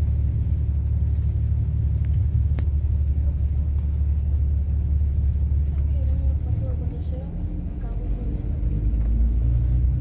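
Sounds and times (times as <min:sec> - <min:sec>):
coach engine rumble: 0:00.0 - 0:10.0
road noise: 0:00.0 - 0:10.0.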